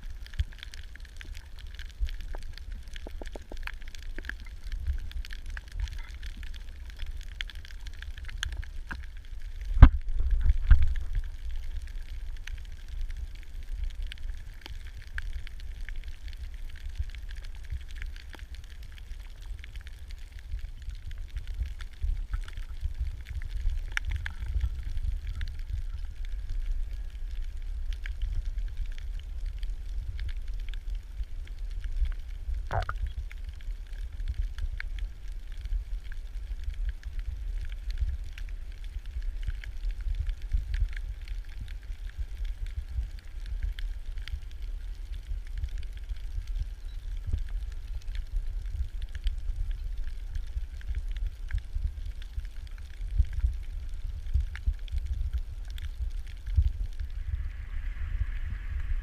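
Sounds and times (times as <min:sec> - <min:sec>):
faint crackling and clicking: 0:00.0 - 0:58.9
underwater low rumble: 0:00.0 - 0:59.0.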